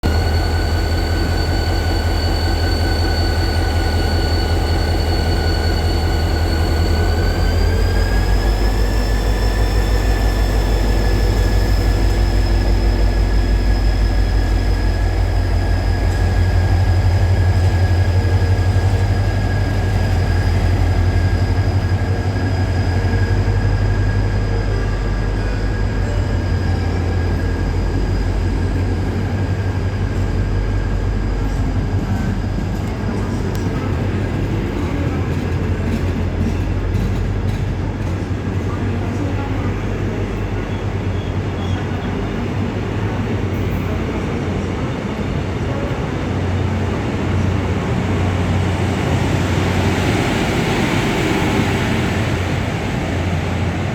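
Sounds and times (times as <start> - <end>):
diesel locomotive throbbing: 0.0 - 53.9.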